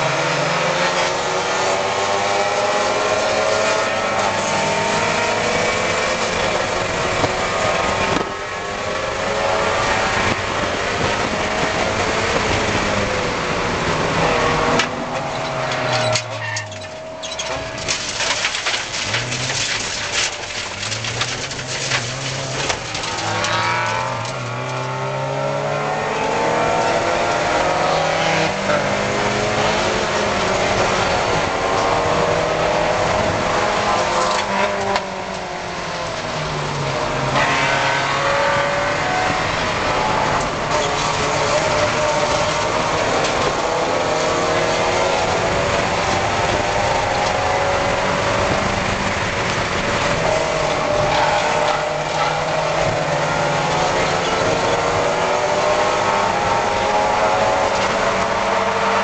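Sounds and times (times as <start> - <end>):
race car engine revving: 0.0 - 59.0
road and wind noise: 0.0 - 59.0.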